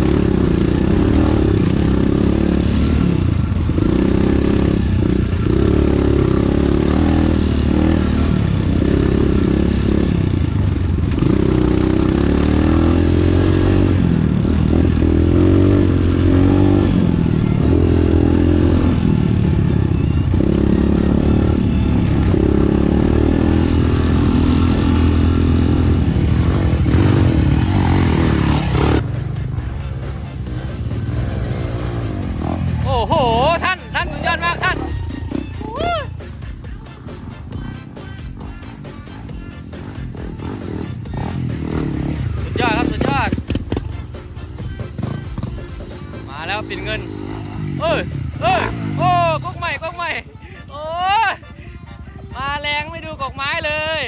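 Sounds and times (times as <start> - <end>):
motorcycle engine revving: 0.0 - 50.4.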